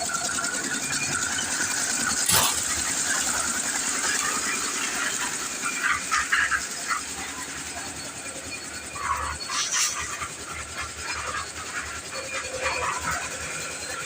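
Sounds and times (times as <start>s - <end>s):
lift machine running: 0.0s - 14.0s.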